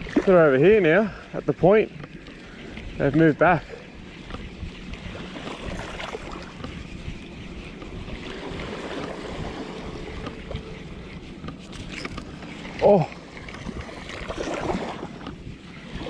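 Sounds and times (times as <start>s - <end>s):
small waves lapping: 0.0s - 16.0s
wind buffeting microphone: 0.0s - 16.0s.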